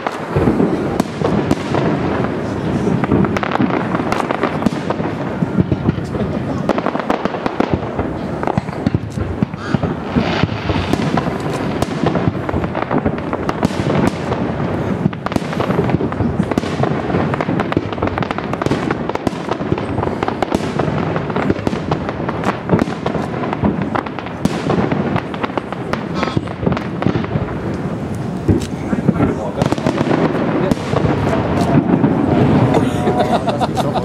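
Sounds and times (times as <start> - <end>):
firework shells bursting: 0.0 - 32.8
sharp firework bangs: 0.0 - 33.8
fireworks crackling: 0.0 - 34.0.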